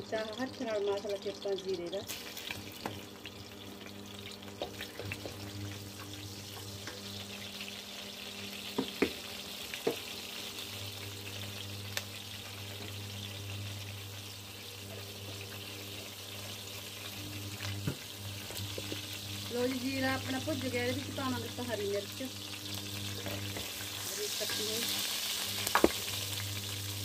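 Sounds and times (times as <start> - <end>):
low hum of cooktop: 0.0 - 27.0
seeds sizzling in hot oil: 0.0 - 27.0.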